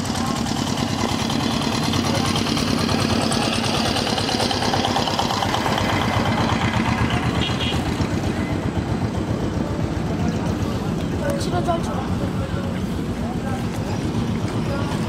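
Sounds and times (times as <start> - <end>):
engine running with fast pulsing: 0.0 - 15.0.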